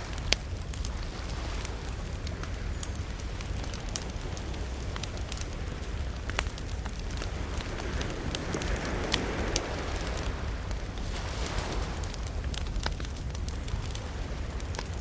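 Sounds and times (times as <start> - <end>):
campfire crackling: 0.0 - 15.0
sharp pops from burning wood: 0.0 - 15.0
steady low rumble: 0.0 - 15.0.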